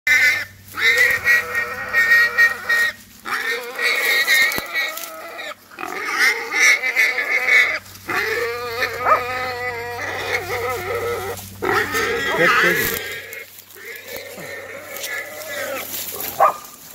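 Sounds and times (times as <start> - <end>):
wild boar squealing: 0.1 - 16.7.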